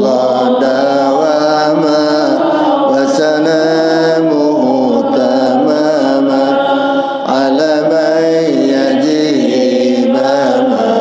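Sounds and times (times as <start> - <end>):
religious chanting: 0.0 - 11.0.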